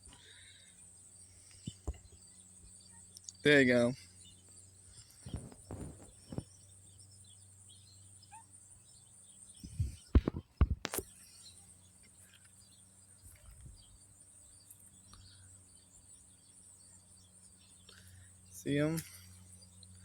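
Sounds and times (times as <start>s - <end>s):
faint bird chirps: 0.0s - 20.0s
high insect hum: 0.0s - 20.0s.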